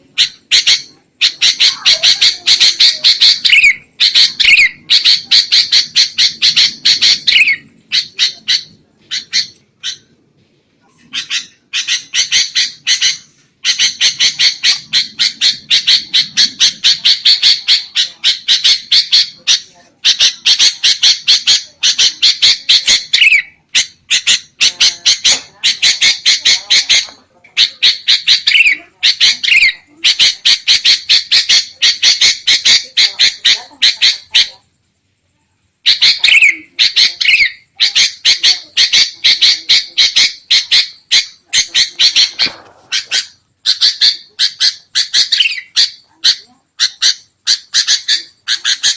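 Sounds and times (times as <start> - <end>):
bulbuls chattering calls: 0.0 - 10.2, 11.0 - 34.7, 35.8 - 48.9.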